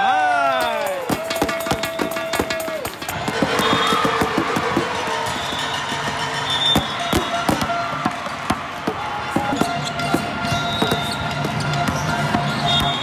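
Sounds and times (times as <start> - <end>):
music: 0.6 - 13.0
volleyballs thudding: 0.9 - 13.0.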